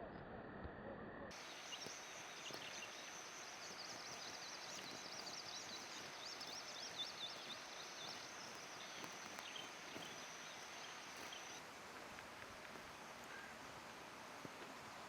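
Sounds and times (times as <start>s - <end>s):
background hiss: 1.3s - 15.0s.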